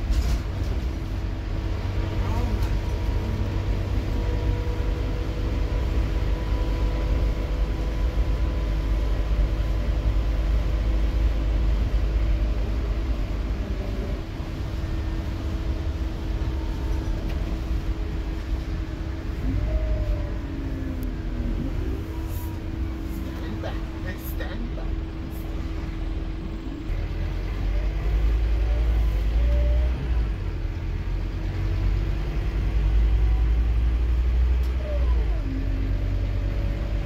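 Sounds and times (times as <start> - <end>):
bus diesel engine droning: 0.0 - 37.0
engine whine: 0.0 - 37.0.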